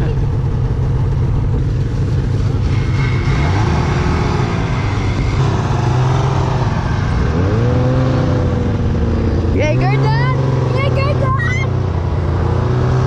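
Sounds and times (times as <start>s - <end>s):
snowmobile engine running: 0.0s - 13.0s.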